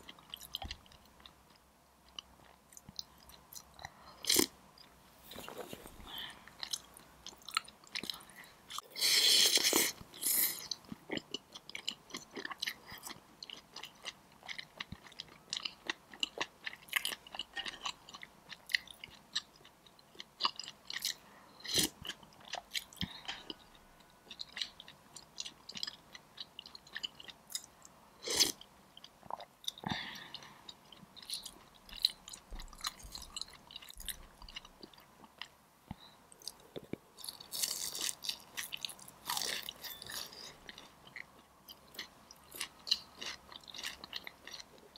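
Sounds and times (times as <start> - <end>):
soft wet chewing: 0.0 - 8.9, 9.6 - 44.9.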